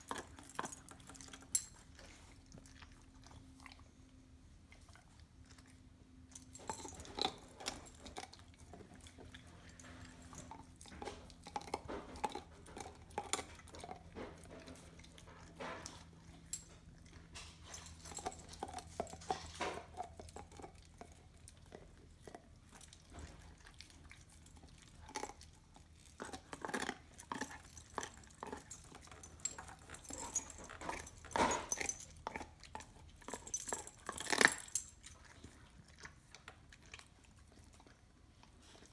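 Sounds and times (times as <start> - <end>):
dog gnawing a bone: 0.0 - 38.9.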